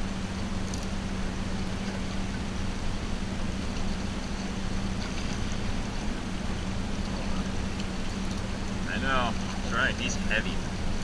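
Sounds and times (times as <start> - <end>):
outboard motor running: 0.0 - 11.0
wind and water rumble: 0.0 - 11.0.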